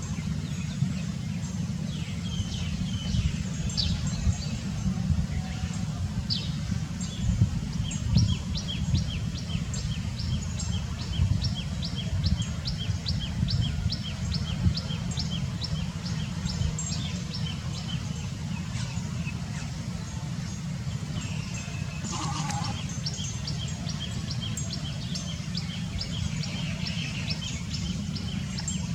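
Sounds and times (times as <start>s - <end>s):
steady low rumble: 0.0s - 28.9s.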